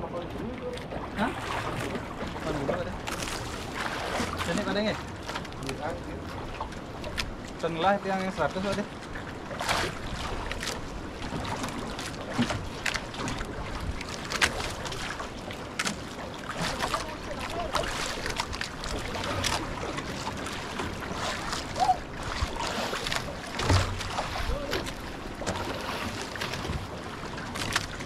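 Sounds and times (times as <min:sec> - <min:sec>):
water slapping boat hull: 0:00.0 - 0:28.0
wind and waves on microphone: 0:00.0 - 0:28.0.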